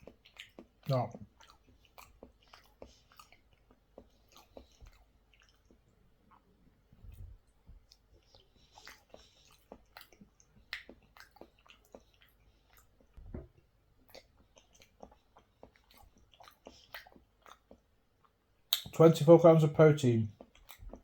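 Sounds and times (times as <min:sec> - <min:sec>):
wet chewing mouth sounds: 0:00.0 - 0:19.0, 0:20.3 - 0:21.0.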